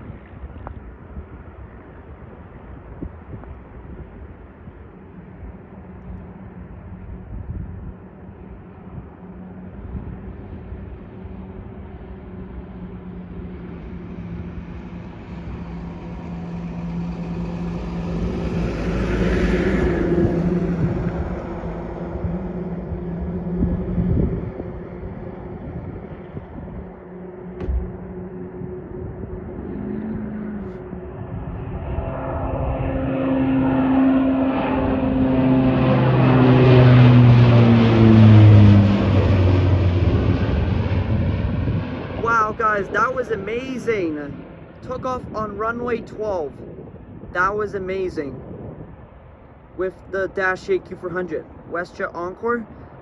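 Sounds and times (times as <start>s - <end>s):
turboprop aircraft droning: 0.0s - 53.0s.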